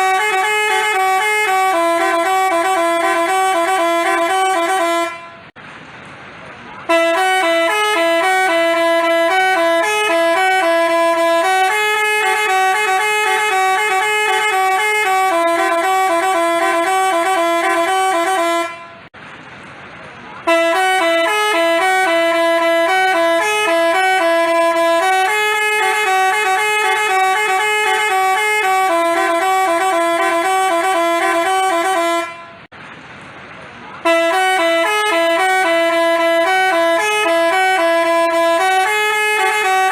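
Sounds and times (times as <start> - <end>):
bus horn playing a melody: 0.0 - 5.6, 6.8 - 19.1, 20.4 - 32.7, 34.0 - 39.9.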